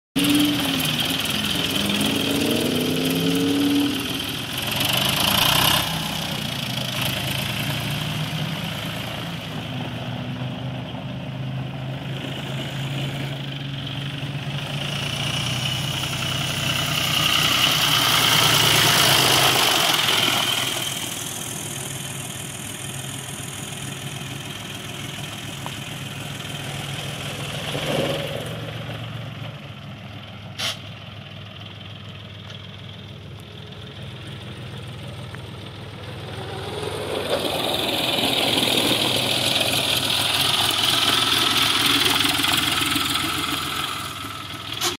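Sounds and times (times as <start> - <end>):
tractor diesel engine running: 0.2 - 45.0.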